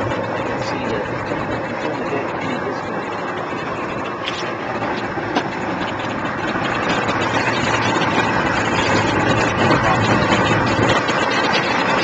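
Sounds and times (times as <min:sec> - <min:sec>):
outboard motors idling: 0:00.0 - 0:12.0.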